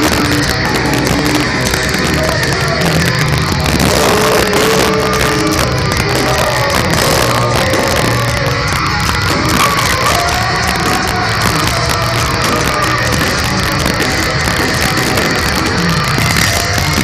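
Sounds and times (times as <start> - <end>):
heavy metal band playing: 0.0 - 17.0.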